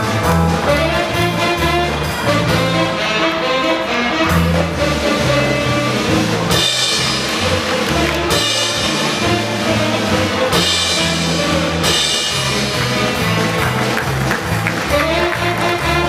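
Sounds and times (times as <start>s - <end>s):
circus band music: 0.0s - 16.0s
drum kit beating: 0.0s - 16.0s.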